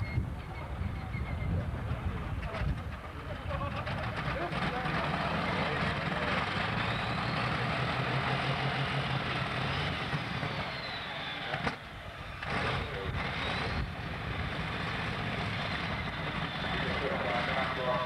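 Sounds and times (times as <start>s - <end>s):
tractor engine rumbling: 0.0s - 18.0s.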